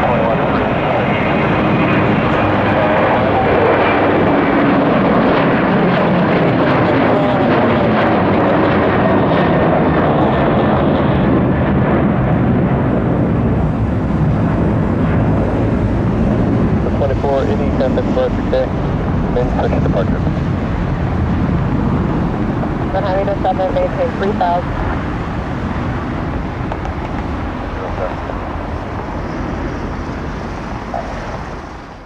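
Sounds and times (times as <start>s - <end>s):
jet engines at takeoff: 0.0s - 32.0s.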